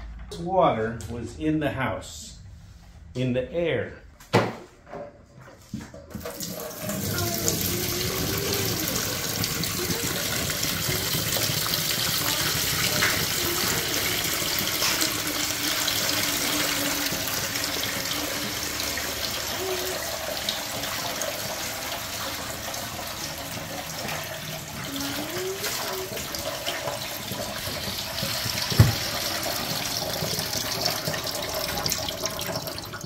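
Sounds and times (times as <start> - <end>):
water pouring into metal sink: 6.1 - 33.0.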